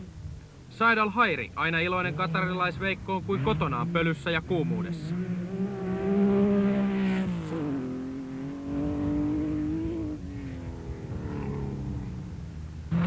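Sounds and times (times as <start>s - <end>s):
rally car engine at high revs: 1.9s - 13.0s.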